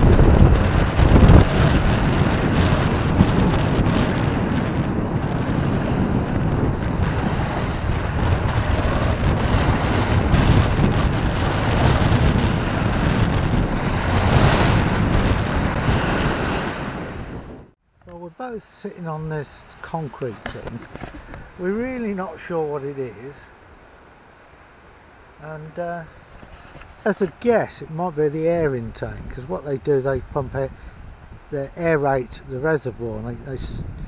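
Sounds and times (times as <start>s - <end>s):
wind buffeting microphone: 0.0s - 17.8s, 19.9s - 22.4s, 23.1s - 34.0s
waves splashing against shore: 0.0s - 32.2s.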